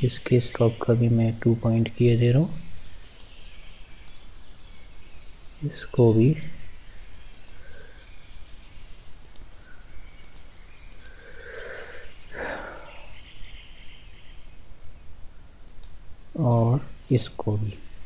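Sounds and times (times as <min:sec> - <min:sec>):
low background hum and hiss: 0:00.0 - 0:18.0.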